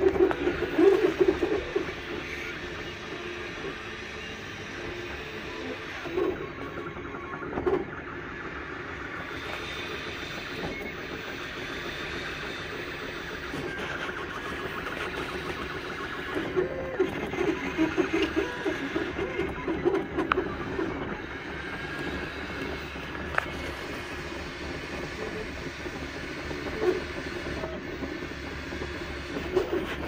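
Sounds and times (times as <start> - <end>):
printer stepper motors whining: 0.0 - 30.0.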